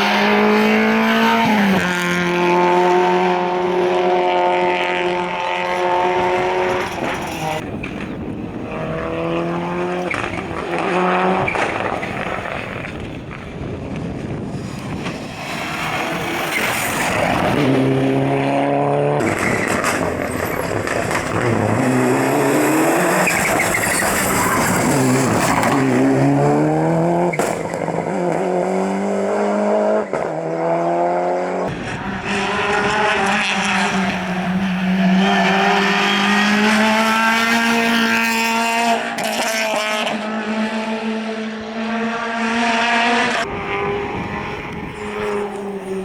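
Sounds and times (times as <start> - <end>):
rally car engines at full throttle: 0.0 - 46.0.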